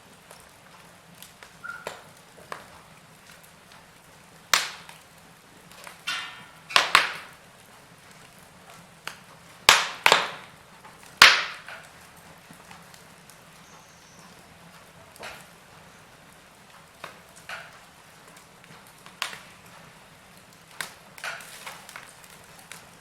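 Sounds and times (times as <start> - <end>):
logs crackling and popping in fireplace: 0.0 - 23.0.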